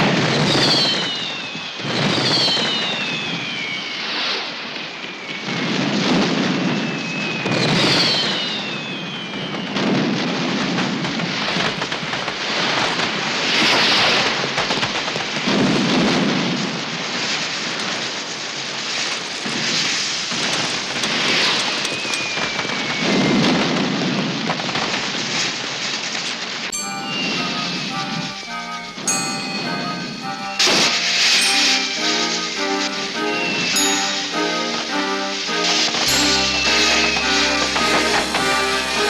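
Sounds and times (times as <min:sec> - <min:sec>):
firework whistles: 0:00.0 - 0:11.7, 0:12.4 - 0:14.6, 0:17.2 - 0:39.0
fireworks crackling and banging: 0:00.0 - 0:39.0.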